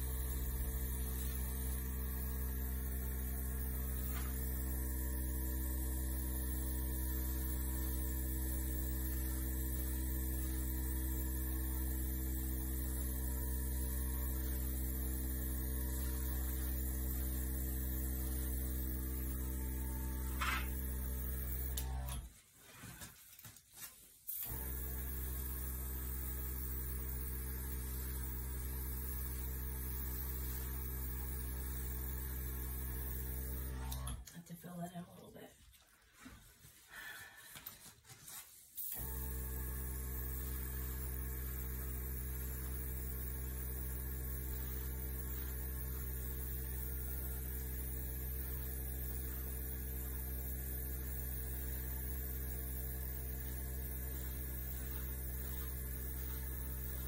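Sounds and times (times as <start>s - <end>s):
air compressor humming: 0.0s - 22.3s, 24.3s - 34.2s, 38.8s - 57.0s.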